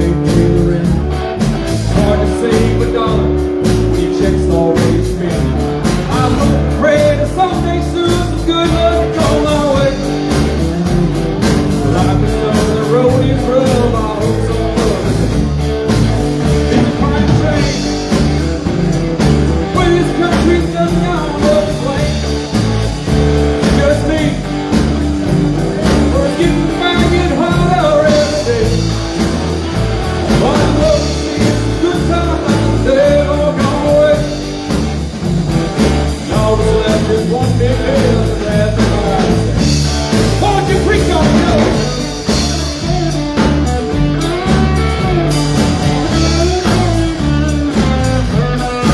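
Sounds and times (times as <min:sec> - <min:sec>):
person singing: 0:00.0 - 0:34.9, 0:35.7 - 0:48.9
live rock band playing: 0:00.0 - 0:48.9.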